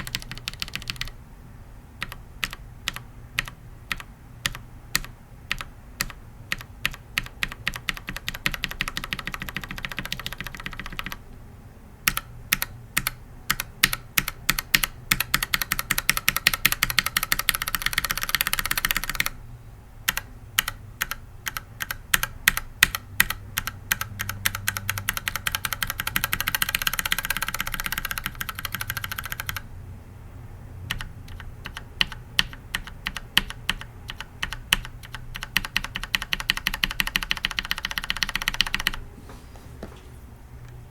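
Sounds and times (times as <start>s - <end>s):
mechanical keyboard keys tapping: 0.0s - 1.2s, 2.0s - 11.2s, 12.1s - 19.4s, 20.1s - 29.6s, 30.9s - 39.0s.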